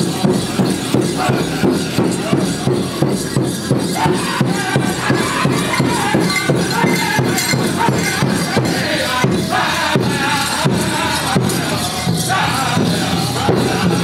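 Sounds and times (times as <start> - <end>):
big drum steady beat: 0.0 - 14.0
voices singing high chant: 0.0 - 14.0.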